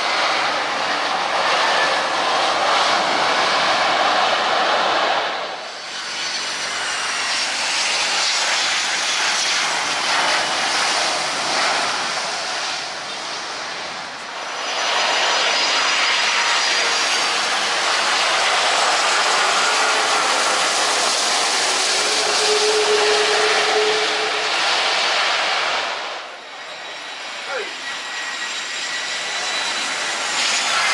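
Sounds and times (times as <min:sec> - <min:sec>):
jet engines roaring: 0:00.0 - 0:30.9.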